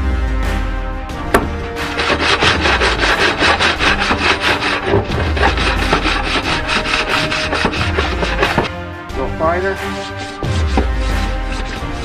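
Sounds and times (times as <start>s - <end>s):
abrasive scrubbing rusty metal: 1.1s - 12.0s.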